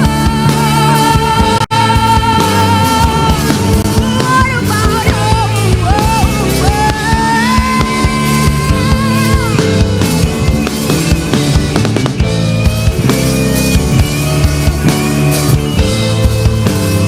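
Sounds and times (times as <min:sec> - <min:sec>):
lead guitar bending notes: 0:00.0 - 0:17.0
live rock band playing: 0:00.0 - 0:17.0.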